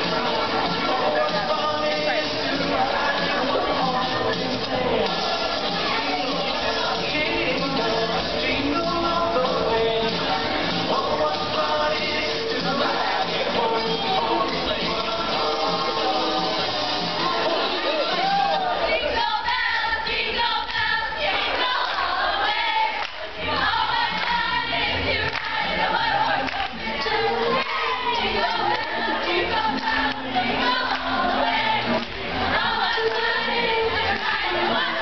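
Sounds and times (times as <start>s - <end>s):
song with singing over sound system: 0.0s - 35.0s.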